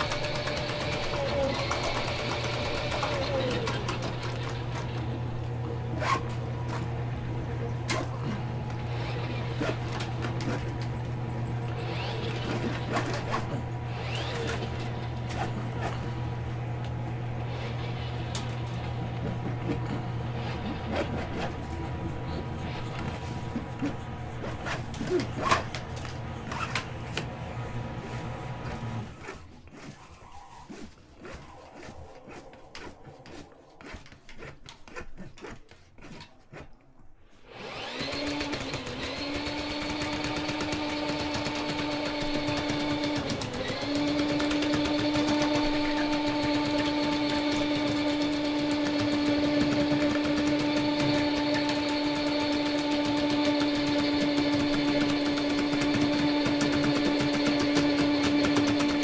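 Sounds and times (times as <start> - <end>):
machine humming: 0.0 - 33.8, 37.4 - 59.0.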